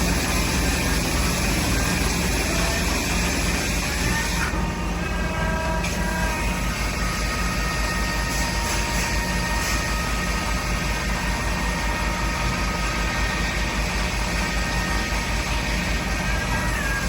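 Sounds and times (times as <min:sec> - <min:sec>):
high whining tones: 0:00.0 - 0:17.0
low pulsing hum: 0:00.0 - 0:17.0
machine tool running: 0:00.0 - 0:17.0.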